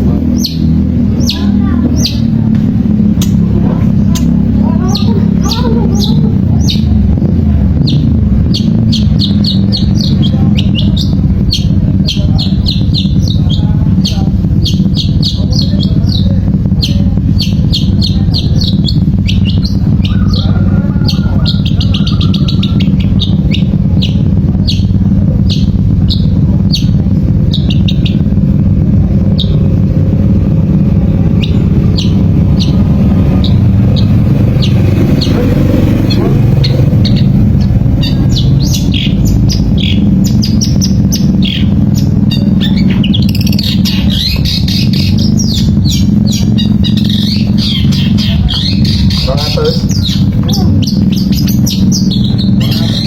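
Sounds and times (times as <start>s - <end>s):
loud steady low rumble: 0.0s - 53.0s.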